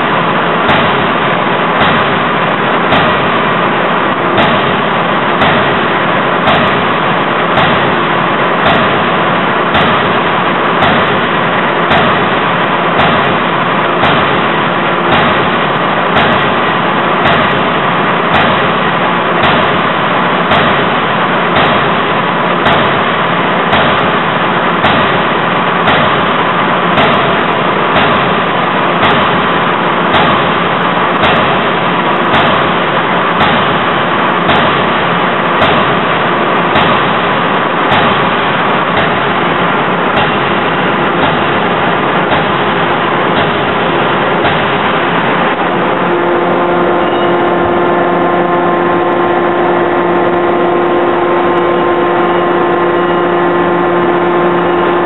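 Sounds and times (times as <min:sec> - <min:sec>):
forging hammer striking metal: 0:00.0 - 0:55.0
loud steady machine noise: 0:00.0 - 0:55.0
tonal hum: 0:00.0 - 0:55.0.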